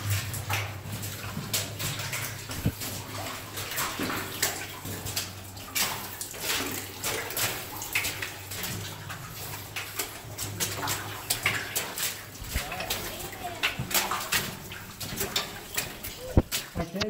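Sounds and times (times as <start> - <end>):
footsteps splashing through water: 0.0 - 17.0
steady low hum: 0.0 - 17.0.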